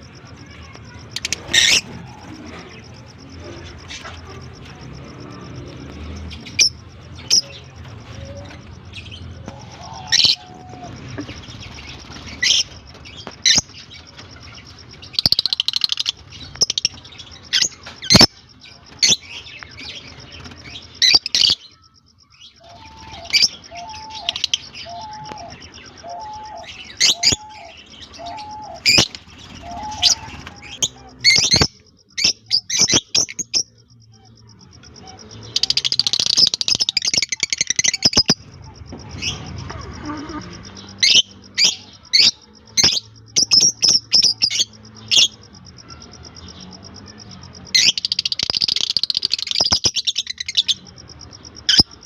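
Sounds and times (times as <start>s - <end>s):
lovebirds chirping: 0.0s - 52.0s.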